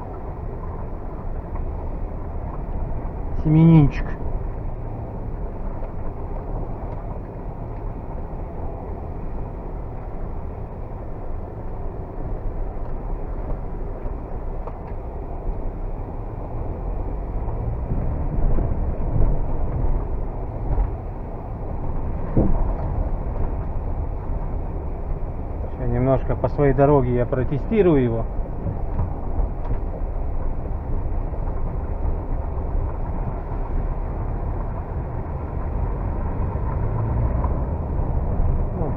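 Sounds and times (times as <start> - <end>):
car engine and road hum: 0.0 - 38.9.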